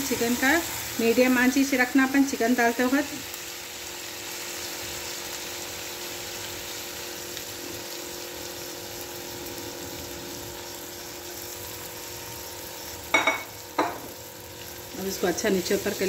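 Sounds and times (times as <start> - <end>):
chicken sizzling in a frying pan: 0.0 - 16.0.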